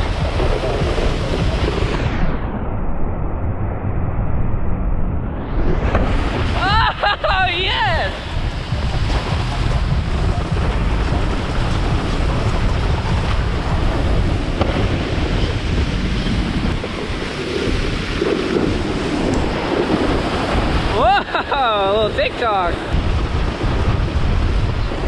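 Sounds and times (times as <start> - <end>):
boat engine running: 0.0 - 2.0, 6.0 - 25.0
water rushing: 0.0 - 2.1, 5.7 - 25.0
wind buffeting microphone: 0.0 - 25.0.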